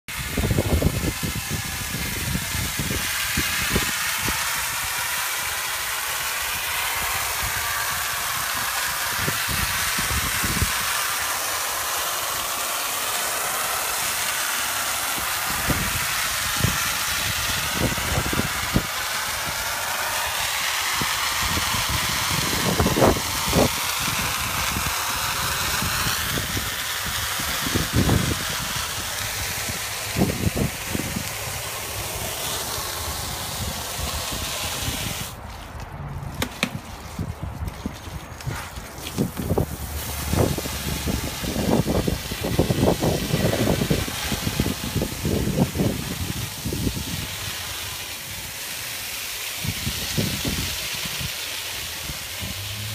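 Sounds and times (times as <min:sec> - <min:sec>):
garden hose spraying water: 0:00.0 - 0:52.9.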